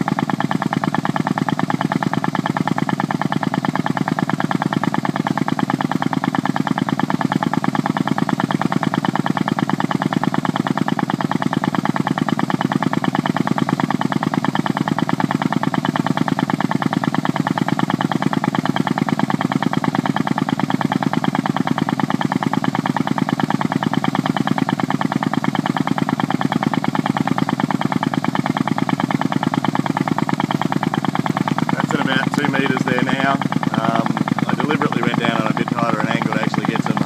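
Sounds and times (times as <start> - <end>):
machine running with pulsing beat: 0.0 - 37.0.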